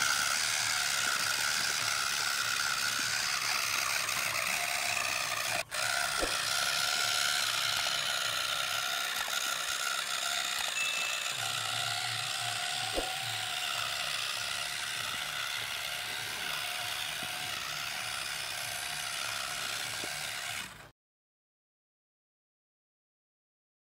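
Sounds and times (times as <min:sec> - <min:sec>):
electric motor whirring: 0:00.0 - 0:20.9
harrow through sand: 0:00.0 - 0:20.9.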